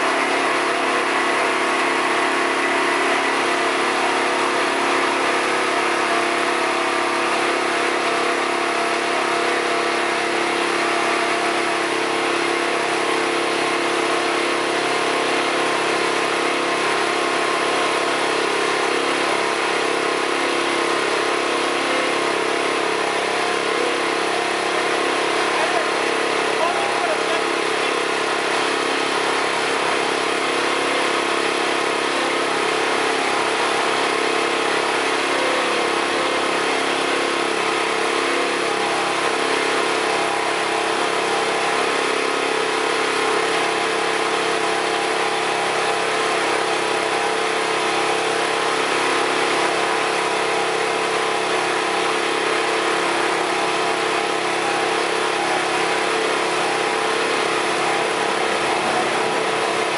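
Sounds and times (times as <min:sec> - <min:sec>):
engine-like drone: 0:00.0 - 0:59.9.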